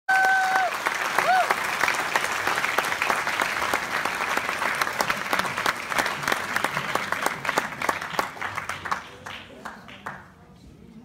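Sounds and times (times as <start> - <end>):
audience applauding: 0.1 - 10.3.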